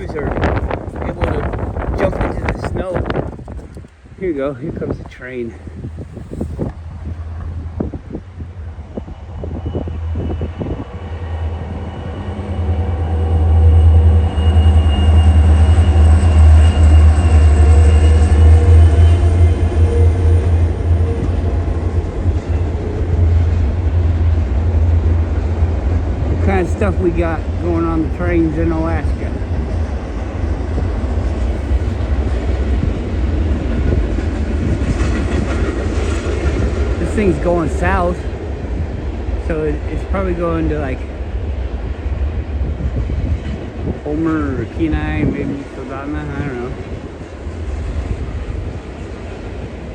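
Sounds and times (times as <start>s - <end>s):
diesel locomotive rumble: 0.0s - 49.9s.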